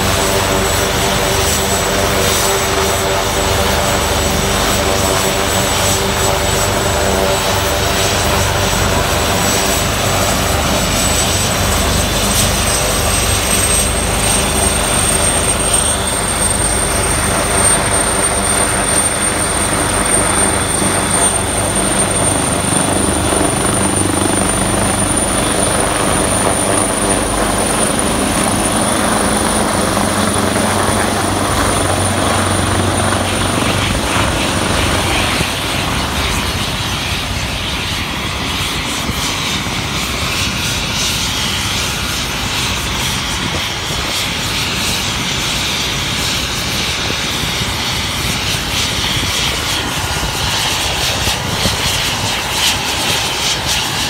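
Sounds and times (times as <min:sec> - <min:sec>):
helicopter rotor rumble: 0:00.0 - 0:54.0
helicopter turbine whine: 0:00.0 - 0:54.0.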